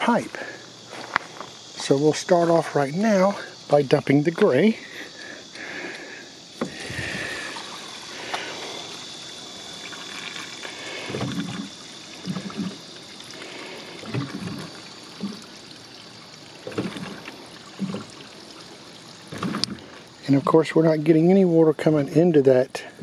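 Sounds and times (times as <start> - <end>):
low gurgles: 0.0 - 22.0
water rushing through hose: 0.0 - 22.1.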